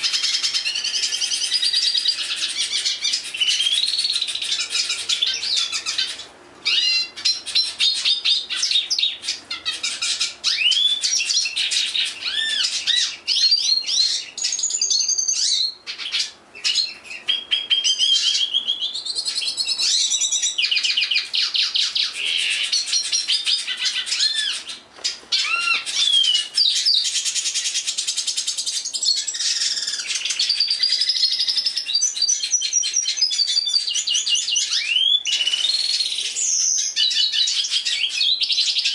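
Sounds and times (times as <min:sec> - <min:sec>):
songbird singing whistles and trills: 0:00.0 - 0:38.9.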